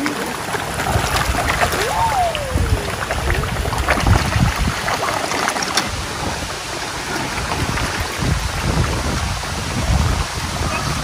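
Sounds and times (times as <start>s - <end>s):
fish splashing at pond surface: 0.0s - 9.1s.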